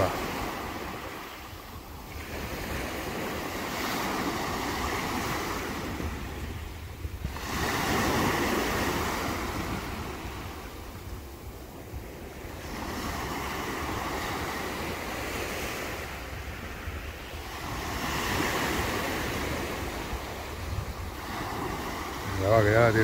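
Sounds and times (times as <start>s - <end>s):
waves breaking on beach: 0.0s - 23.0s
wind buffeting microphone: 0.0s - 23.0s.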